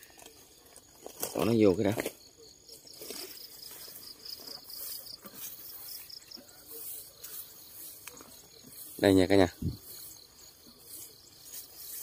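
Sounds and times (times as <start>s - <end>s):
grass rustling: 0.0s - 12.0s.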